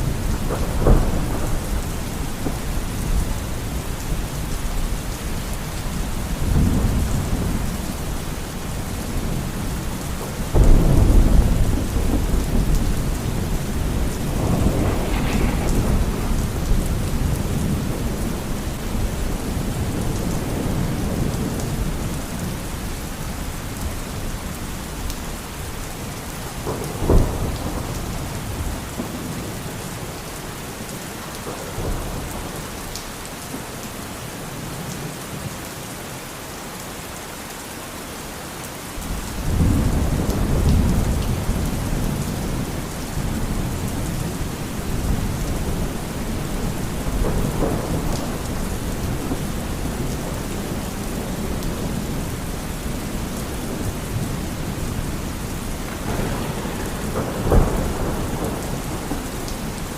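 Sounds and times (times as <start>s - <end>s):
thunder rumbling: 0.0s - 22.8s, 25.0s - 30.2s, 39.0s - 59.9s
heavy rain: 0.0s - 59.9s.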